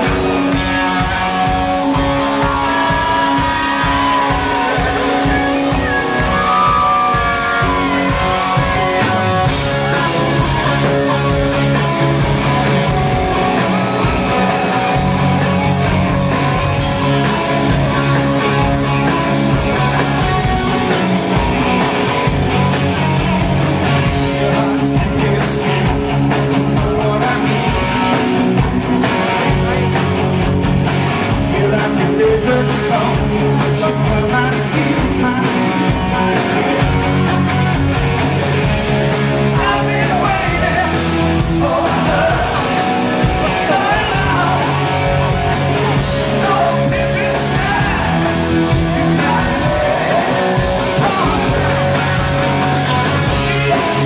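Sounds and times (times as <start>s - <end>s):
man singing: 0.0s - 30.5s, 31.3s - 37.3s, 39.2s - 54.0s
live rock band playing: 0.0s - 54.0s.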